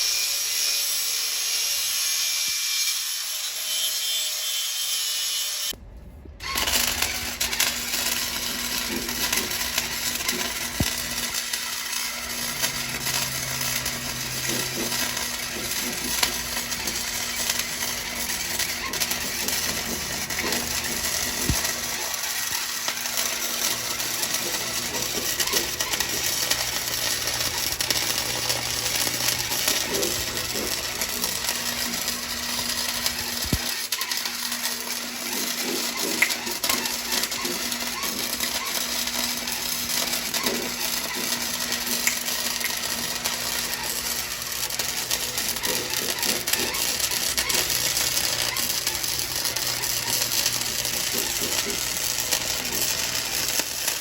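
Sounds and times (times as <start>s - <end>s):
welder low hum: 5.6s - 54.0s
arc welding crackling hiss: 6.4s - 54.0s.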